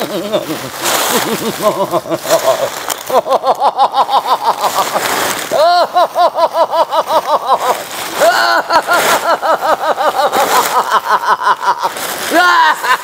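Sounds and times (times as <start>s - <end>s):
high-pitched cackling laughter: 0.0s - 13.0s.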